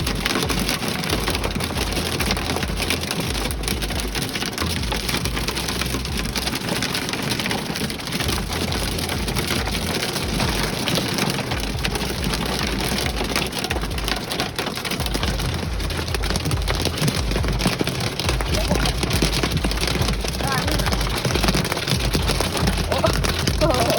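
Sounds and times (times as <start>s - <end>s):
hail clattering: 0.0s - 23.9s
heavy rain: 0.0s - 23.9s.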